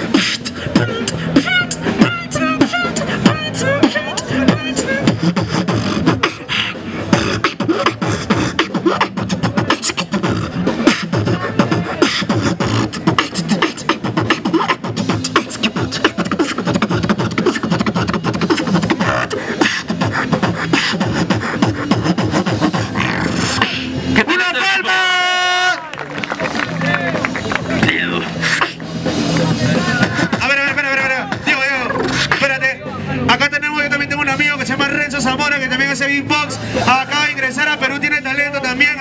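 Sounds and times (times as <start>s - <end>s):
beatboxing into a microphone: 0.0s - 24.6s, 27.1s - 39.0s.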